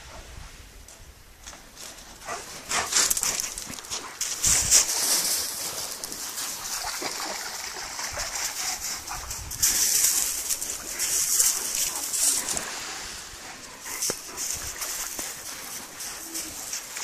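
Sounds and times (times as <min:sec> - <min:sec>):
dogs crunching on pebbles: 0:01.4 - 0:17.0
splashing in shallow water: 0:02.7 - 0:17.0.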